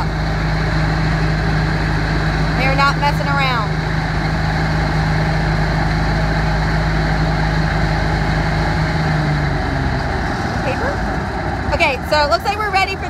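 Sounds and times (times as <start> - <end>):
motor and suction fan hum: 0.0 - 13.0.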